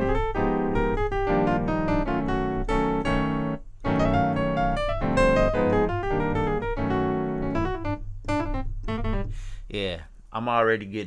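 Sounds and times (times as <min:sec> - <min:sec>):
piano chords and fills: 0:00.0 - 0:09.8.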